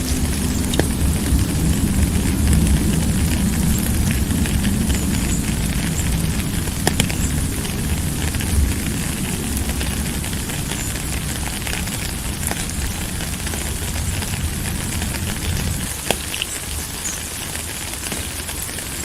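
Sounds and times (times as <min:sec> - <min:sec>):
low rumble: 0:00.0 - 0:16.0
rain drops hitting a surface: 0:00.0 - 0:19.0.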